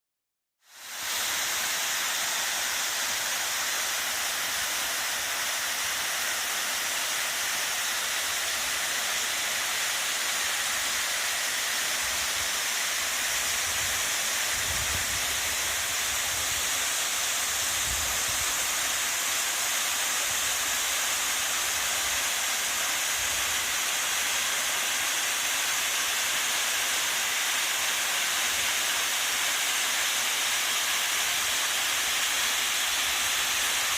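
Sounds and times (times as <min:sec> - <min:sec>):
waterfall rushing: 0:00.7 - 0:33.9.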